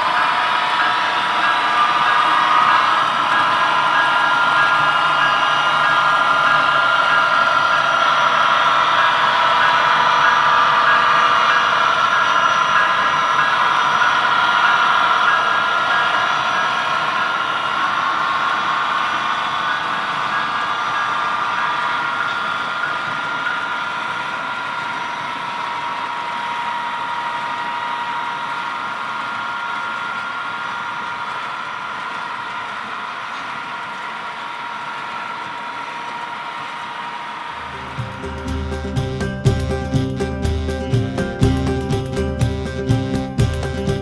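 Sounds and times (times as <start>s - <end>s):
model train engine drone: 0.0s - 44.0s.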